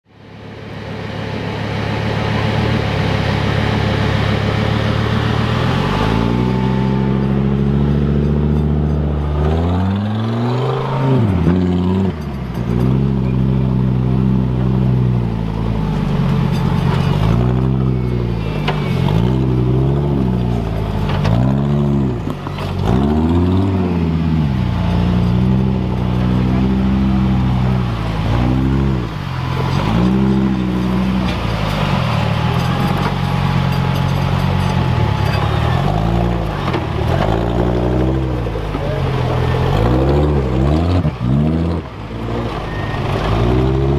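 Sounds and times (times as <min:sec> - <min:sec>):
vehicle engine revving: 0:00.2 - 0:43.9.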